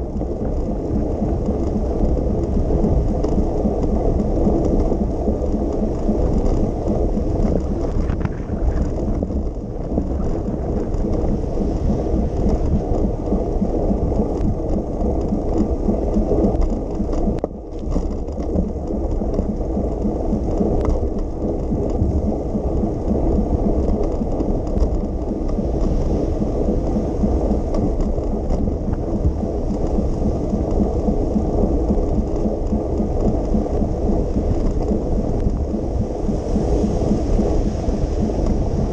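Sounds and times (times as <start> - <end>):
rain: 0.0 - 38.9
wind on microphone: 0.0 - 38.9.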